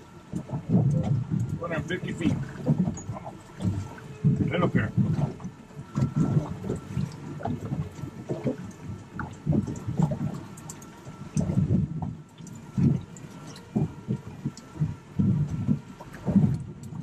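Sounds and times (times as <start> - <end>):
water slapping against boat hull: 0.0 - 17.0.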